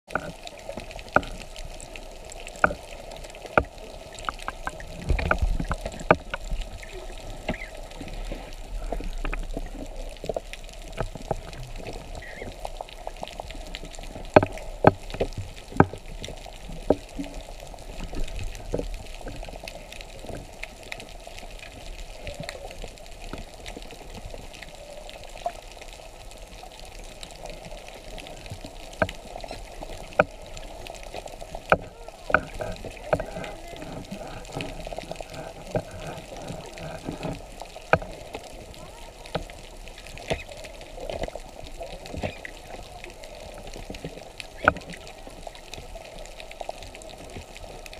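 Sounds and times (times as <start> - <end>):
muffled underwater wash: 0.1 - 47.9.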